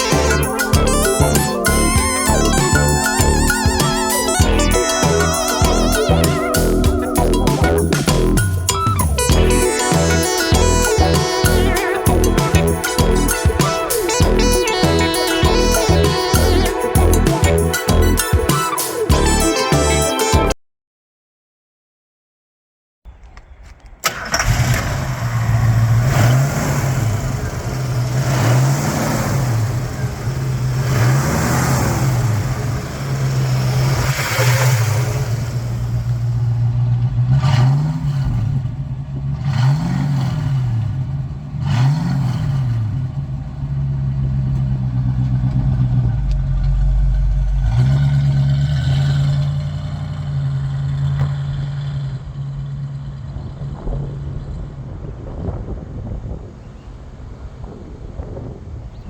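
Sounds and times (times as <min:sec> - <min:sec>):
car engine starting and revving: 0:00.0 - 0:20.1, 0:23.2 - 0:56.5.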